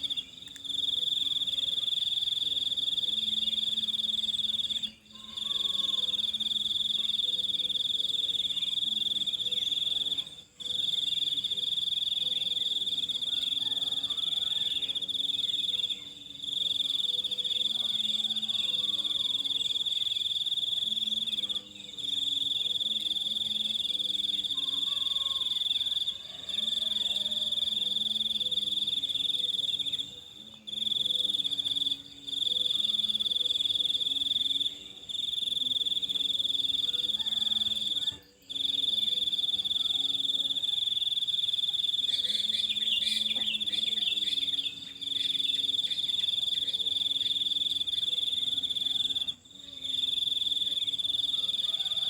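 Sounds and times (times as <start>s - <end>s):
high-pitched insect trill: 0.0s - 52.0s.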